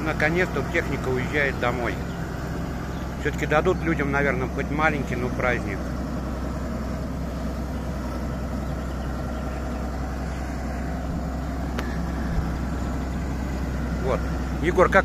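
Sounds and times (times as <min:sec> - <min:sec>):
diesel excavator engine running: 0:00.0 - 0:15.0.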